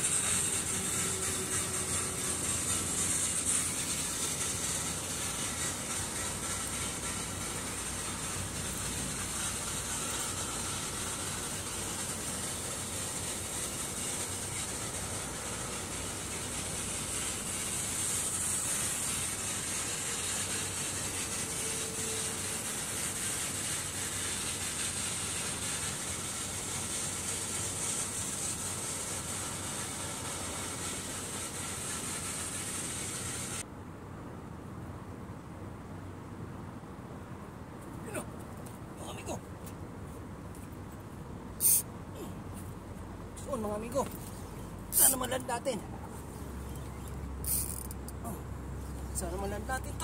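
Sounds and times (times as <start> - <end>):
seaside ambience hiss: 0.0 - 50.0.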